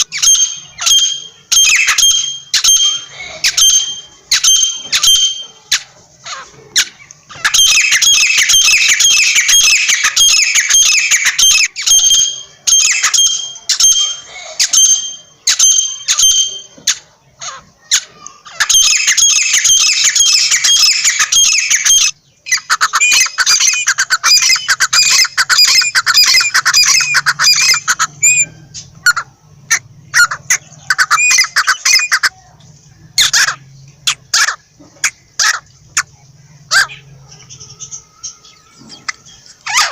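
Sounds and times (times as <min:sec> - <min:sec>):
francolin harsh calls: 0:00.0 - 0:39.9.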